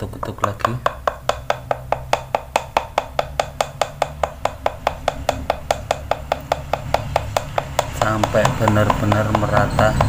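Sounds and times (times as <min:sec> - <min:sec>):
rapid tapping of wooden stick: 0:00.0 - 0:10.0.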